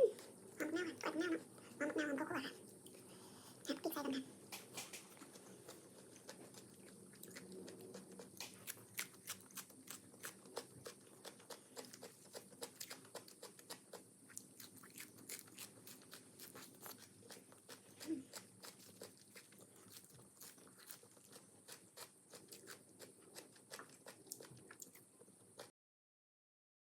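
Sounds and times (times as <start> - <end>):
chewing crunchy food: 0.1 - 25.7.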